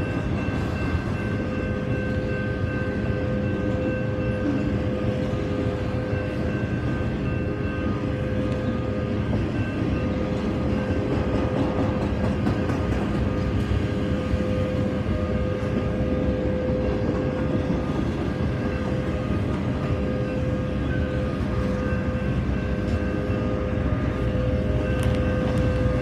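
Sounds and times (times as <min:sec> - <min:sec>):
thin steady whine: 0:00.0 - 0:26.0
wheels rumbling on rail: 0:00.0 - 0:26.0.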